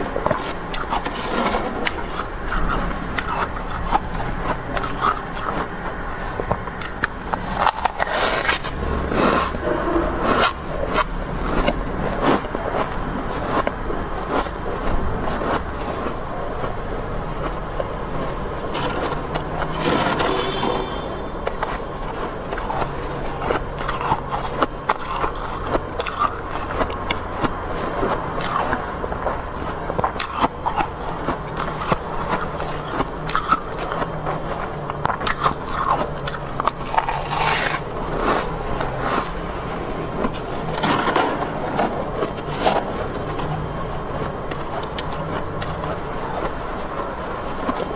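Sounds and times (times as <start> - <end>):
person crunching frost: 0.0 - 47.9.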